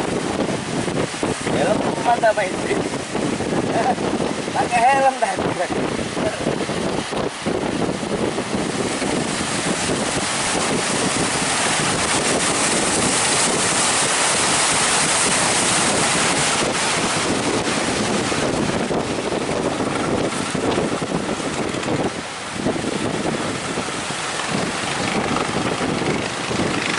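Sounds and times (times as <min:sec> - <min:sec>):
ocean surf breaking: 0:00.0 - 0:26.9
wind buffeting microphone: 0:00.0 - 0:26.9.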